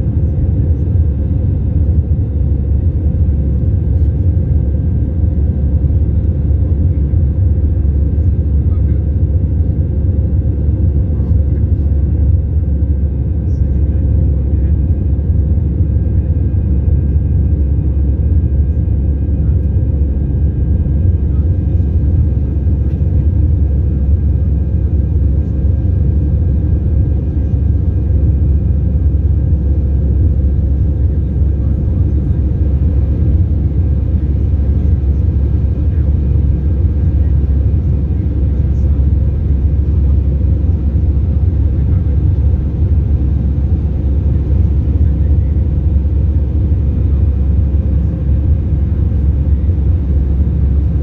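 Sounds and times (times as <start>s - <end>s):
airplane cabin engine rumble: 0.0s - 51.0s.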